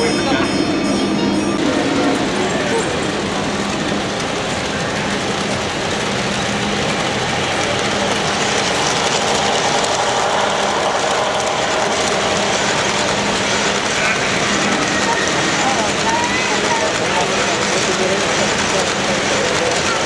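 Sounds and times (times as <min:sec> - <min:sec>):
model train wheels on rails: 0:00.0 - 0:20.0
model locomotive motor: 0:01.6 - 0:20.0.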